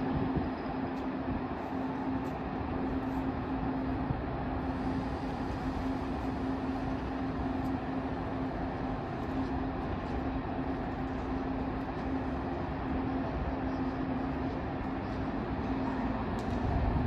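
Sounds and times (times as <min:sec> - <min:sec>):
train humming at a platform: 0:00.0 - 0:17.0.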